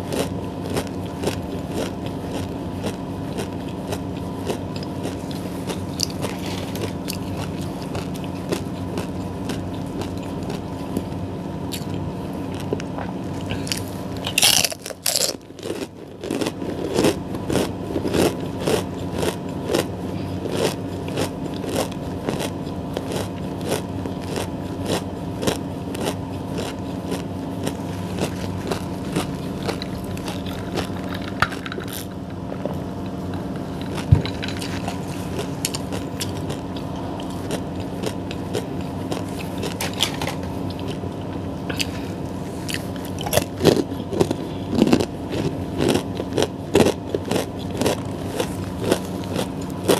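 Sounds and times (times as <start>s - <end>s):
crunching and chewing: 0.0s - 49.9s
steady low hum: 0.0s - 49.9s.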